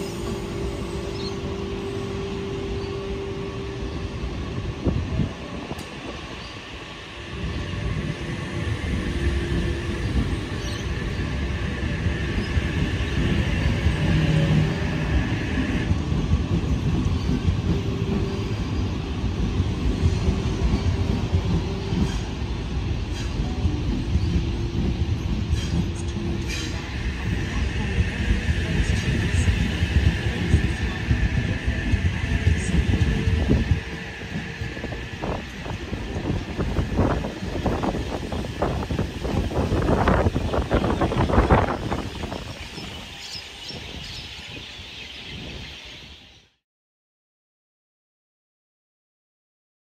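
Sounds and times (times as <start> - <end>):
train rumbling past: 0.0 - 46.4.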